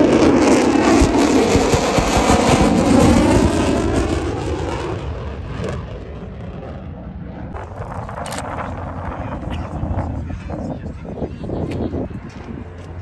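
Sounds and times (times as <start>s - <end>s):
jet engine roaring overhead: 0.0s - 13.0s.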